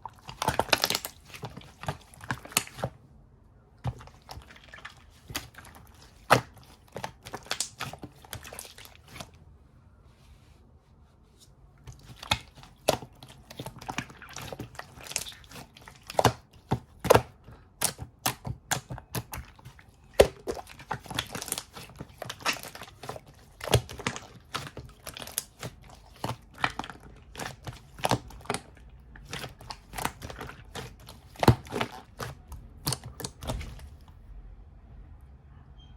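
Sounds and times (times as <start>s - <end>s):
slime popping and crackling: 0.1s - 2.8s, 3.9s - 9.2s, 12.0s - 33.9s.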